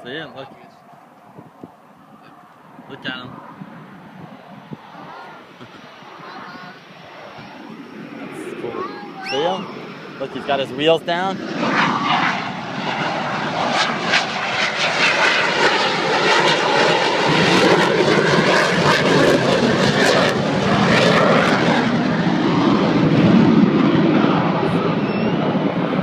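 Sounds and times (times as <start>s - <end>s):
jet flying past: 0.0s - 26.0s.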